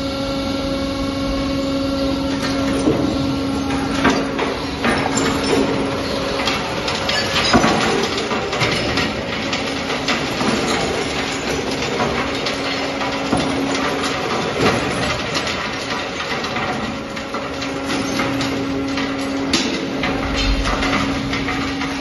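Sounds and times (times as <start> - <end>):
steady machine hum: 0.0 - 22.0
metal pieces clattering on conveyor: 2.3 - 22.0.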